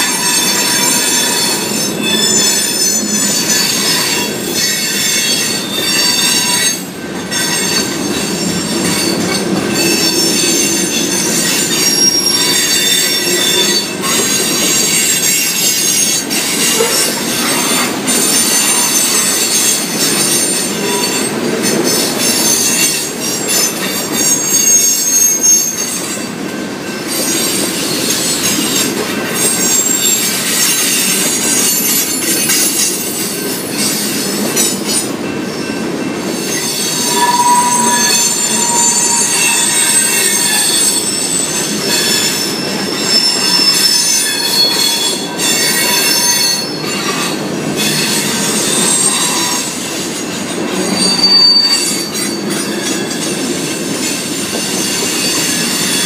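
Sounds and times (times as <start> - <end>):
high-pitched wheel squeals: 0.0 - 26.3, 29.4 - 34.2, 34.9 - 49.9, 50.6 - 56.0
steel wheels rumbling on rail: 0.0 - 56.0.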